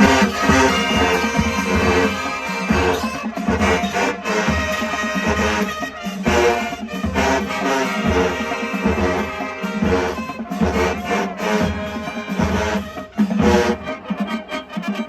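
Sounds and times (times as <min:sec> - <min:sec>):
marching band brass: 0:00.0 - 0:15.0
steady drum beat: 0:00.0 - 0:15.0.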